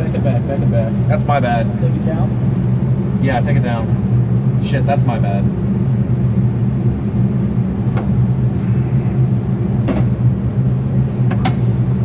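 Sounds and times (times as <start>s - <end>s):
idling engine hum: 0.0s - 12.0s.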